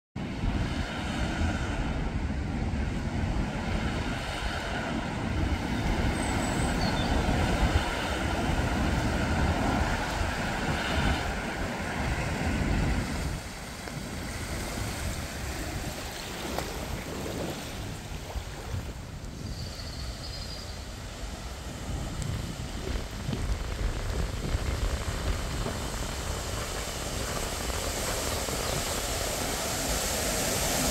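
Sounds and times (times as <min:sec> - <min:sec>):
wind buffeting microphone: 0:00.2 - 0:30.9.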